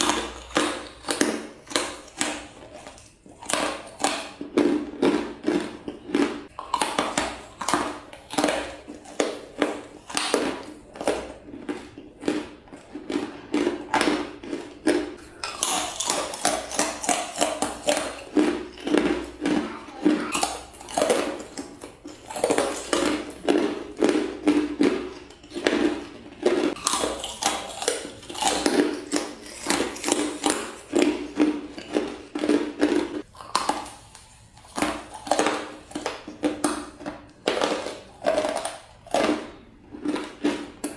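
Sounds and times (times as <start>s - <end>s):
frozen ice being chewed: 0.0s - 40.9s.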